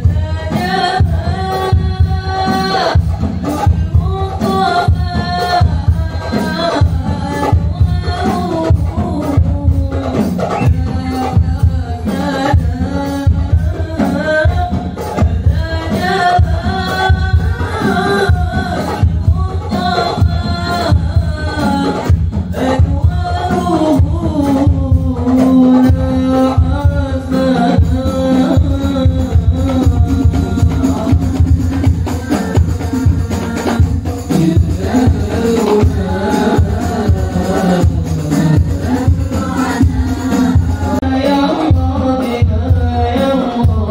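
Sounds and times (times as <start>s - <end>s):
low drum beat: 0.0s - 43.9s
men singing devotional songs: 0.0s - 43.9s
tambourine-like percussion: 0.0s - 43.9s.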